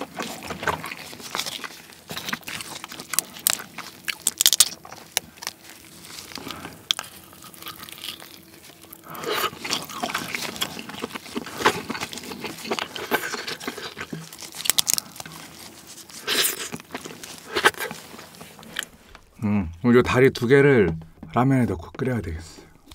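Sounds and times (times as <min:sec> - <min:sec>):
crab meat tearing and crackling: 0:00.0 - 0:19.4
chewing: 0:00.0 - 0:19.8.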